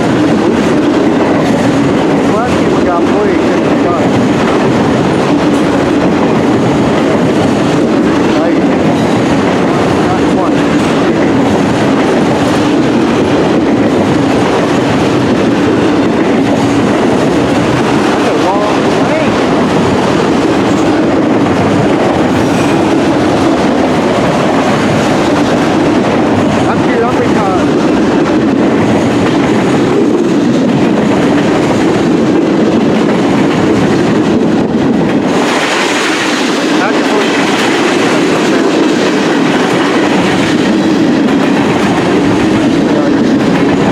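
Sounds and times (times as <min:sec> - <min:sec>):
freight train rumbling past: 0:00.0 - 0:43.9
steel wheels on rails: 0:00.0 - 0:43.9.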